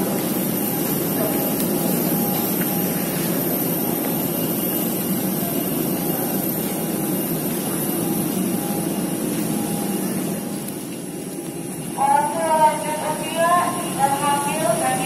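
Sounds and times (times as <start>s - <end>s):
faint high whine: 0.0s - 15.0s
jet engine noise: 0.0s - 15.0s.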